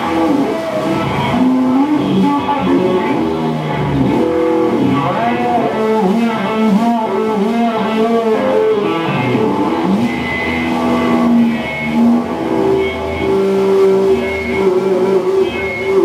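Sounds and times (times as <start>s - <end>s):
distorted electric guitar lead: 0.0s - 16.0s.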